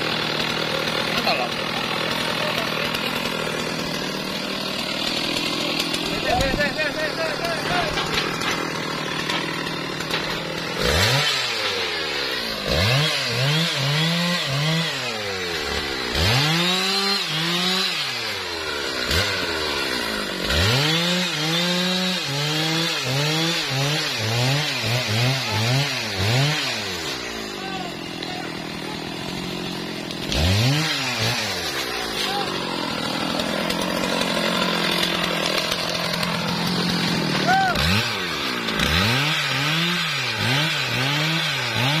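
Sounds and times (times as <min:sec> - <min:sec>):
chainsaw cutting wood: 0:00.0 - 0:42.0
chainsaw revving: 0:00.0 - 0:42.0.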